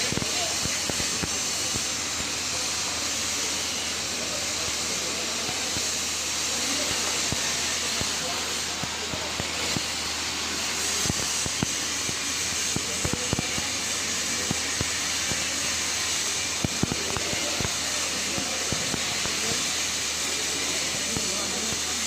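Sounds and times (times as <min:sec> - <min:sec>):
welding arc hissing and crackling: 0:00.0 - 0:22.0.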